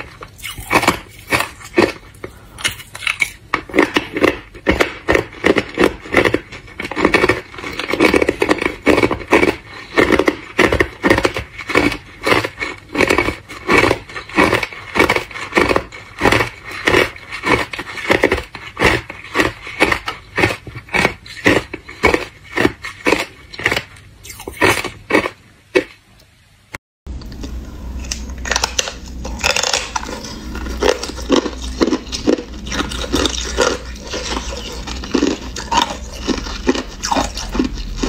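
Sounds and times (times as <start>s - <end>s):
ice crunched between teeth: 0.0s - 25.9s, 28.1s - 38.0s.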